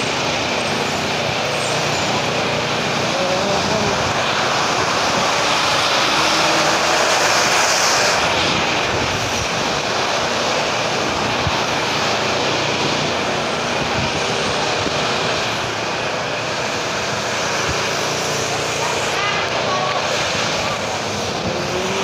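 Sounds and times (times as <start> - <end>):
street traffic engines: 0.0 - 22.0.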